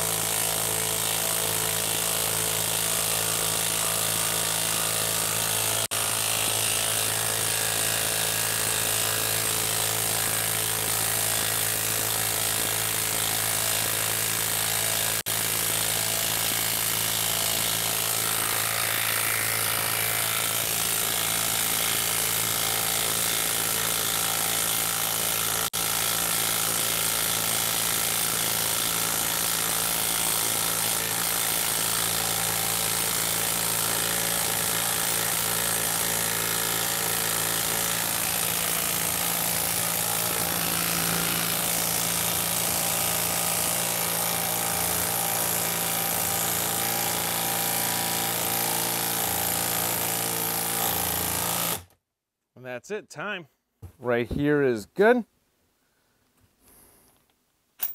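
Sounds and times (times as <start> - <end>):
impact wrench hammering: 0.0 - 51.8.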